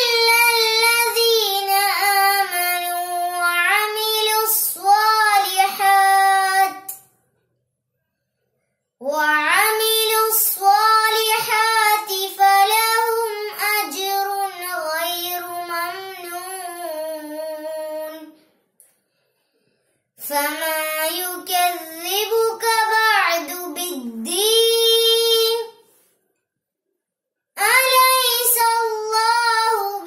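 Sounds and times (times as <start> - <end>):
girl chanting recitation: 0.0 - 7.0, 9.0 - 18.4, 20.2 - 25.8, 27.6 - 30.0.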